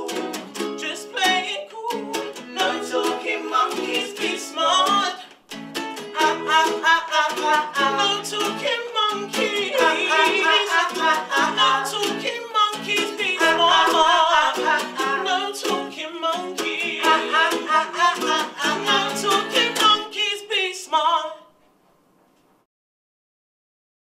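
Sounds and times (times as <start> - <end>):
voices singing: 0.0 - 5.4, 6.0 - 21.5
strummed acoustic strings: 0.0 - 20.3.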